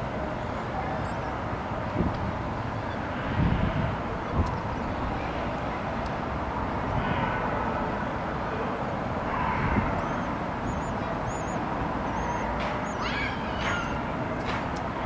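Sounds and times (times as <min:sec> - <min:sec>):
distant traffic: 0:00.0 - 0:15.0.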